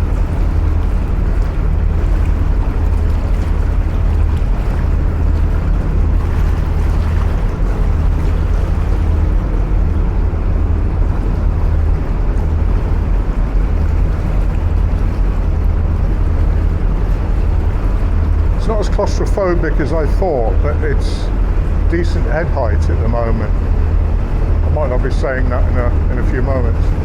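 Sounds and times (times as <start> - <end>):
diesel boat engine running: 0.0 - 27.0.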